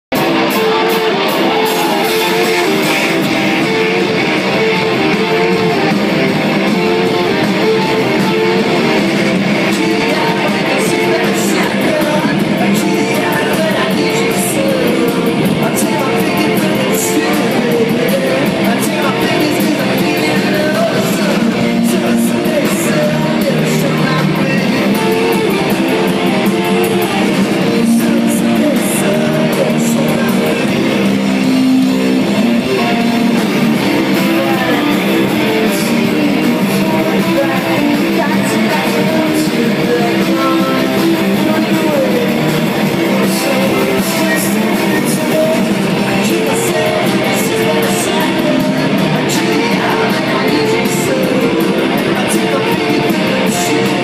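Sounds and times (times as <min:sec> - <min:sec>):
electric guitars: 0:00.0 - 0:54.0
drums with cymbal hits: 0:00.1 - 0:54.0
person singing: 0:00.2 - 0:54.0.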